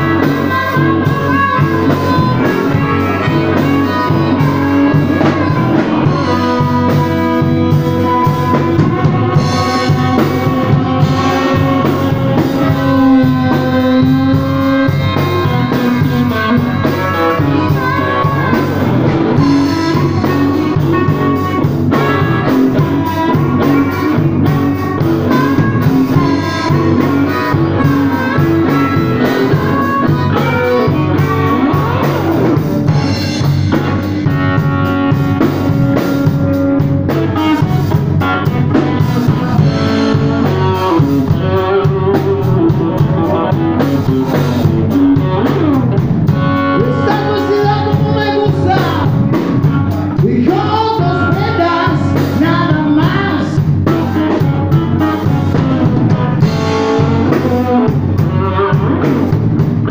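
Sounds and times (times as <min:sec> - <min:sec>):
blues harmonica bending notes: 0:00.0 - 0:59.9
drum kit: 0:00.0 - 0:59.9
electric bass: 0:00.0 - 0:59.9
electric guitar: 0:00.0 - 0:59.9.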